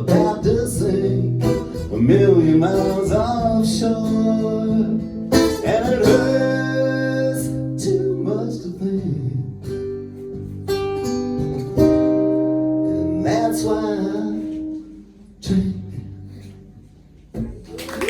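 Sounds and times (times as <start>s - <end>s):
acoustic guitar strumming chords: 0.0s - 17.8s.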